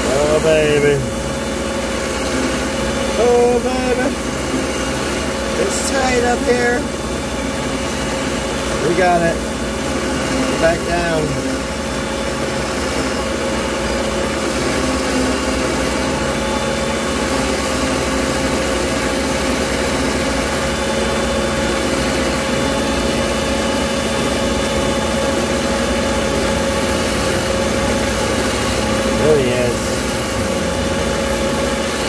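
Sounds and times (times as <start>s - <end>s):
ring saw cutting glass: 0.0s - 32.0s.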